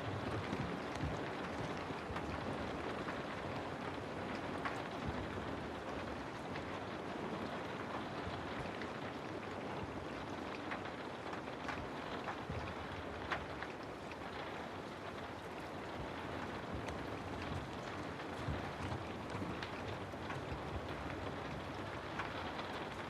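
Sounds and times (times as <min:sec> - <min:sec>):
faint ticks and drips: 0:00.0 - 0:23.0.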